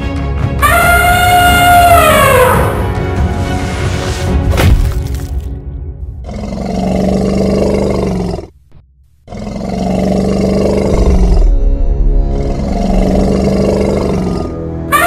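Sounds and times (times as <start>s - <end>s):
background music: 0.0s - 8.5s, 9.8s - 15.0s.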